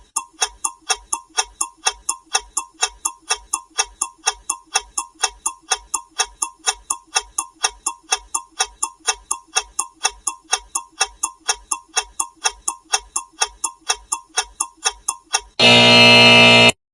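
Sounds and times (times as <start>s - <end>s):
alarm clock ticking: 0.0s - 16.7s.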